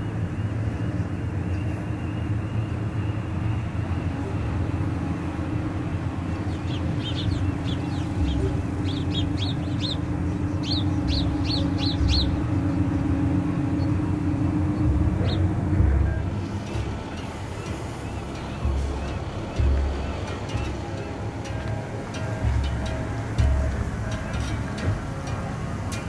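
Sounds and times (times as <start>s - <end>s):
ship engines humming: 0.0s - 26.0s.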